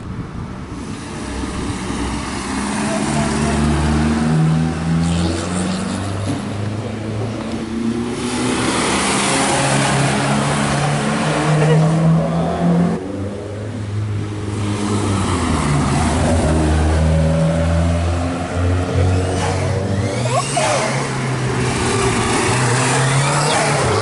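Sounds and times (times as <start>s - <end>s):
rally car engines revving: 0.7s - 24.0s.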